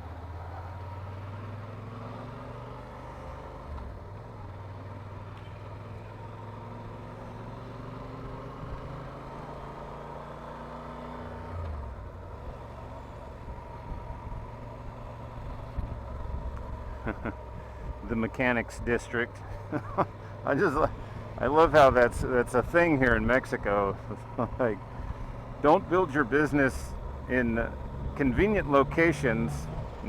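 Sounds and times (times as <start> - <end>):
motorcycle engine running: 2.4 - 30.0.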